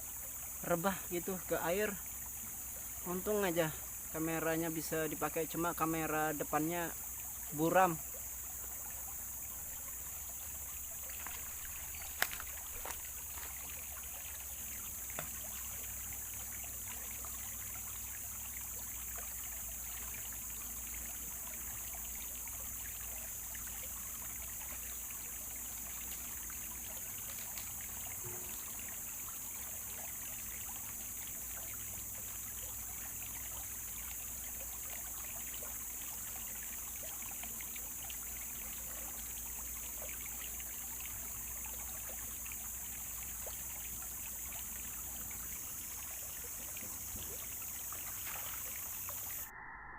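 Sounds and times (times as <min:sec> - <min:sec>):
flowing river: 0:00.0 - 0:49.5.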